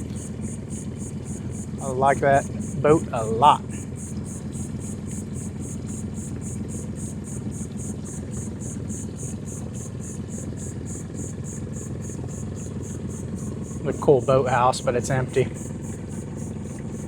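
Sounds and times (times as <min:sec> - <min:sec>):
boat motor droning: 0:00.0 - 0:17.0
high regular pulsing: 0:00.0 - 0:17.0.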